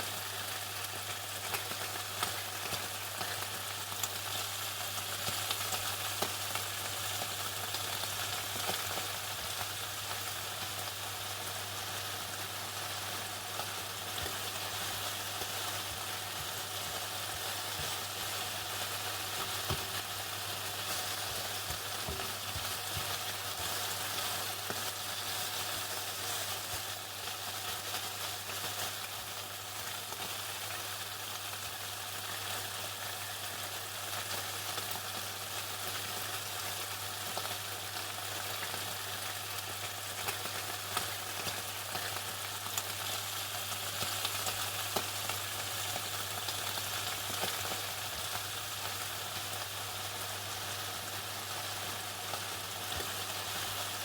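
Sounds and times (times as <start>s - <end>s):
chicken frying in hot oil: 0.0s - 54.0s.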